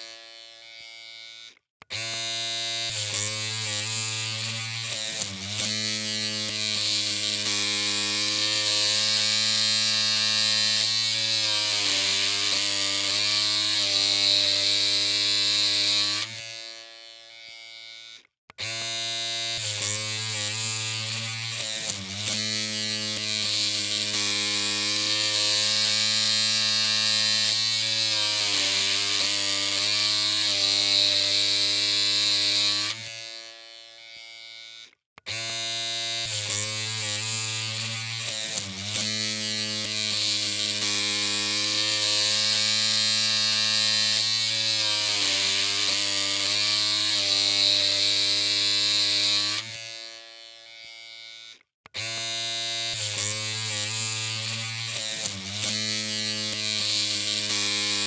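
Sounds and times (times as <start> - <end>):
electric hair clippers buzzing: 0.0 - 58.0.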